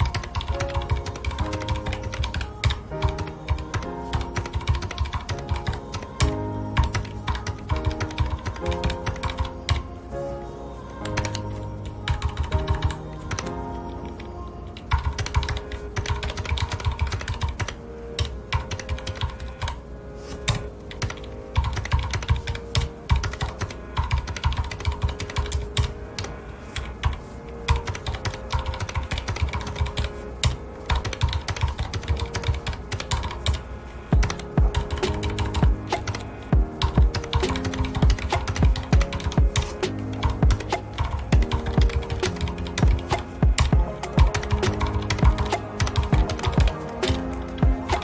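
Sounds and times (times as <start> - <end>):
fast typing on mechanical keyboard: 0.0 - 6.2, 6.8 - 9.8, 14.9 - 19.8, 20.5 - 26.3, 27.0 - 33.6, 34.2 - 48.0
soft background music: 0.0 - 48.0.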